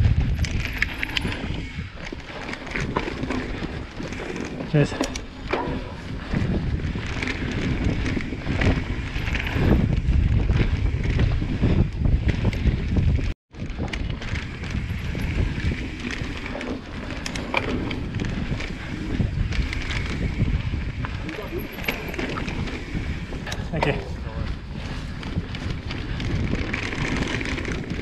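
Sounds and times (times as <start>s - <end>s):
mountain bike rattling and knocking: 0.0s - 28.0s
wind buffeting microphone: 0.0s - 28.0s.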